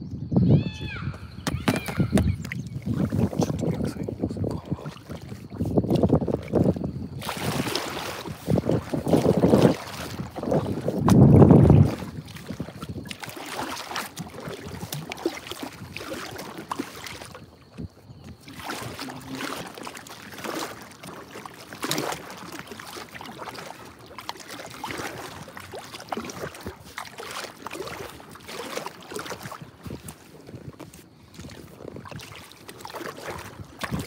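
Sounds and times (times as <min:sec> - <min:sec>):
waves slapping boat hull: 0:01.3 - 0:34.0.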